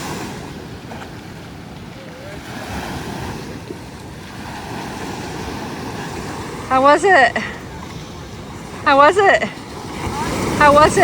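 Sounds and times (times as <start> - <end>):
ocean surf washing ashore: 0.0 - 11.0
wind on microphone: 0.0 - 11.0.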